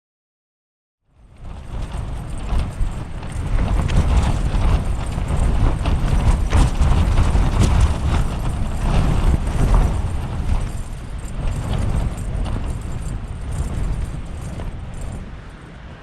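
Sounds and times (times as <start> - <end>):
wind gusting over microphone: 1.2 - 16.0
sharp flaps and knocks: 1.4 - 15.2.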